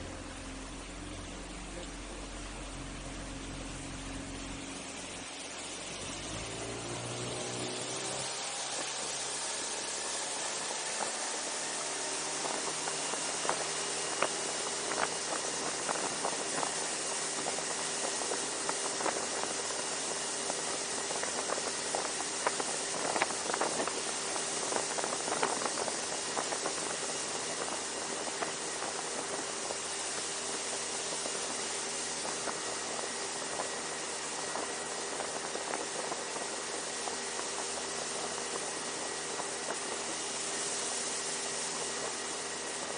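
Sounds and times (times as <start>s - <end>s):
boat motor running: 0.0s - 42.9s
rushing wind and water: 6.0s - 42.9s.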